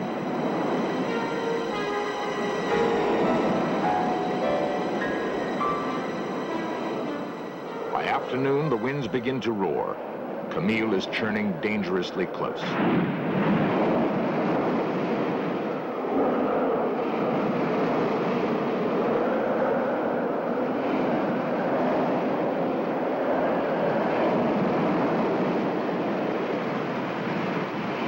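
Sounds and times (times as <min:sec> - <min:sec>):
wind roaring: 0:00.0 - 0:28.0.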